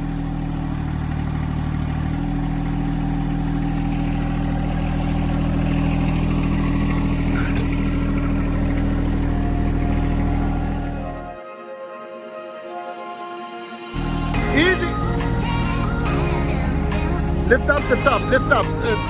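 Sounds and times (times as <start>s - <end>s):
tractor engine running: 0.0s - 11.4s, 14.0s - 19.0s.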